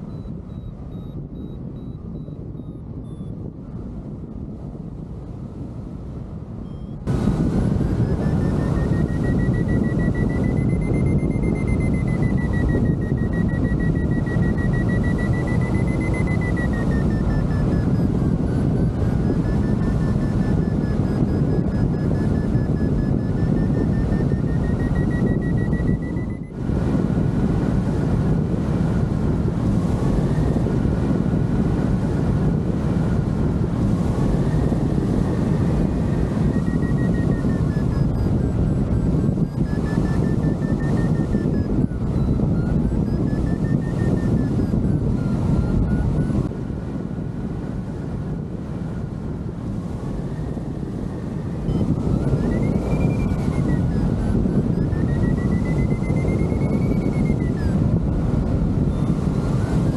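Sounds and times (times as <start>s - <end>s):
variometer high tone: 0.0s - 3.6s, 6.6s - 46.6s, 48.8s - 59.9s
wind rush on microphone: 0.0s - 59.9s.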